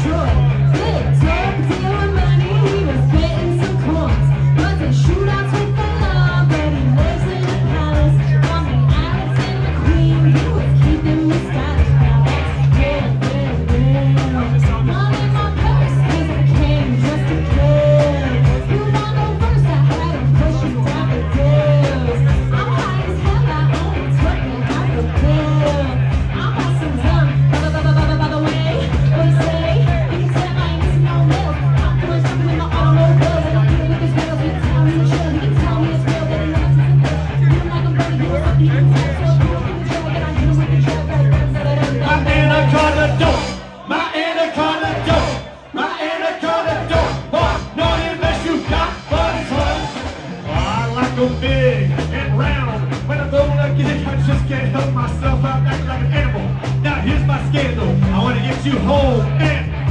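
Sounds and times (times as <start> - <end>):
pulsing bass beat: 0.0 - 43.7, 44.8 - 45.6, 46.6 - 59.9
person singing: 0.0 - 56.2
guitar: 0.0 - 59.9.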